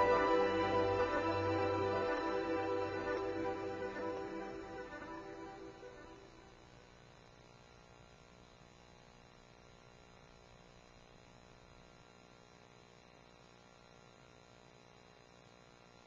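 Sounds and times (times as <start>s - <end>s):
faint steady hum and hiss: 0.0s - 16.0s.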